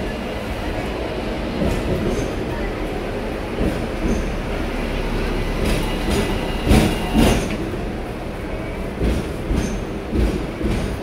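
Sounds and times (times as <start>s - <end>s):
tram running on rails: 0.0s - 11.0s.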